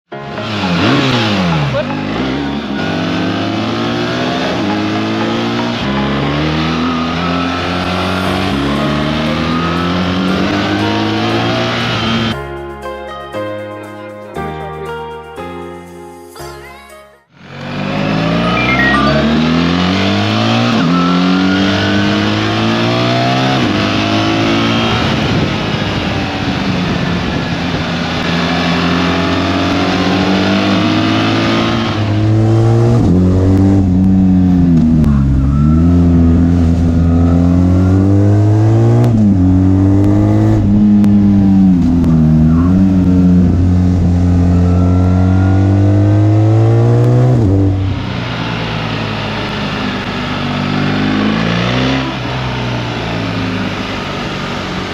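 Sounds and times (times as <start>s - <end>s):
motorcycle engine accelerating: 0.2s - 12.4s, 17.3s - 54.9s.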